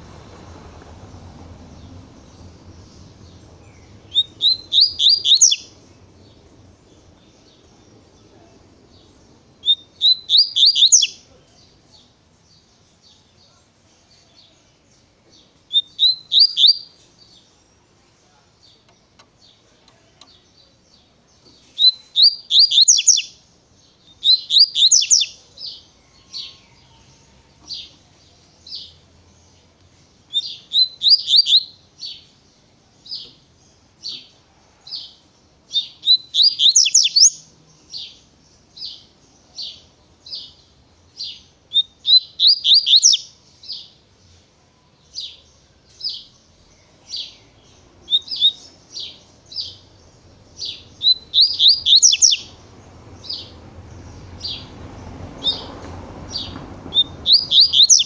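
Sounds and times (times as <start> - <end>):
songbird singing high sweeping notes: 0.0 - 34.4, 35.0 - 58.0.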